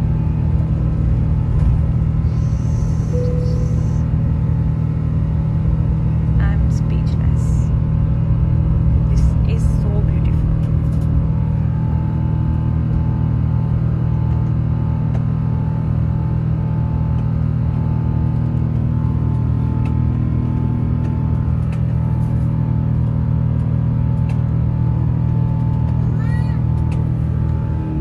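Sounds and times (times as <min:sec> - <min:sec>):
airliner cabin drone: 0:00.0 - 0:28.0.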